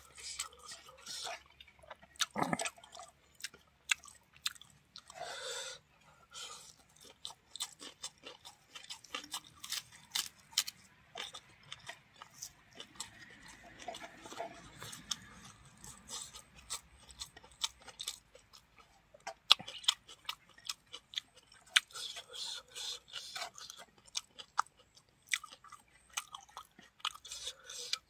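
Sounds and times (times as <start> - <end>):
man chewing food: 0.0 - 28.0.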